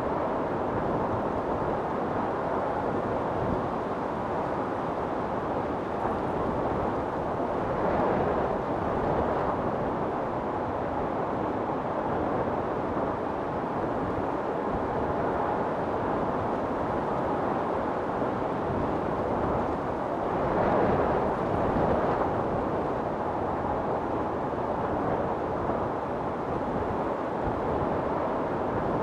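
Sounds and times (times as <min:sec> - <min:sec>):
strong storm wind: 0:00.0 - 0:29.0.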